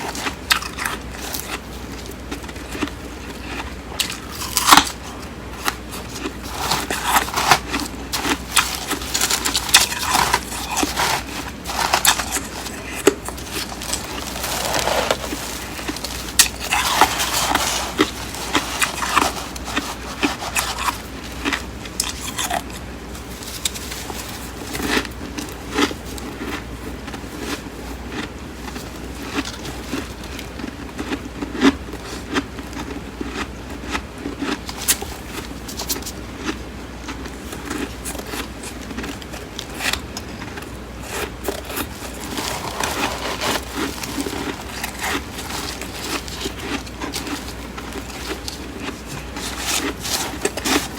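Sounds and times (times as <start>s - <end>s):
crunching frost: 0.0s - 33.4s, 34.2s - 50.9s.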